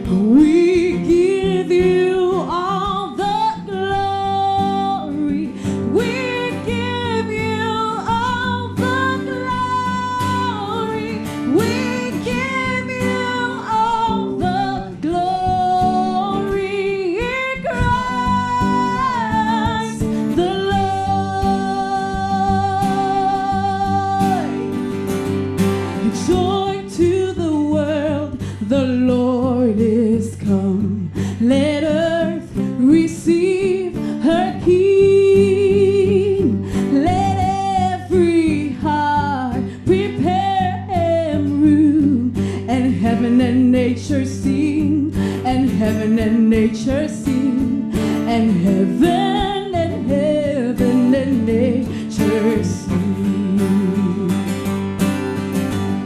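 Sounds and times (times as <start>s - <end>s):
woman singing with vibrato: 0.0s - 54.9s
strummed acoustic guitars: 0.0s - 56.0s.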